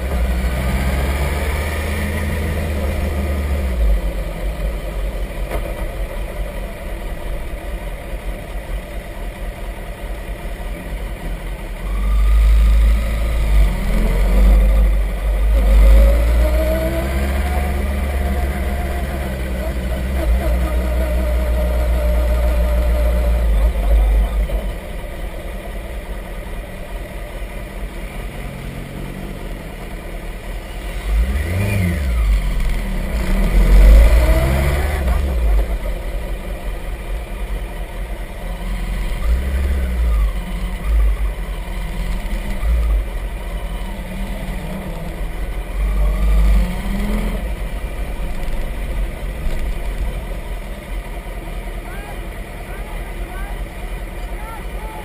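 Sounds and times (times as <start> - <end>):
motorcycle engine revving: 0.0 - 54.6.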